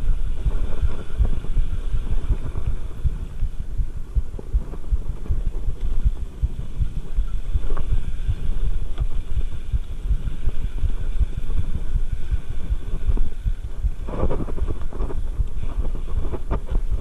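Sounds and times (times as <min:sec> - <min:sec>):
mountain bike rumbling on dirt: 0:00.0 - 0:17.0
faint clicks: 0:00.4 - 0:17.0.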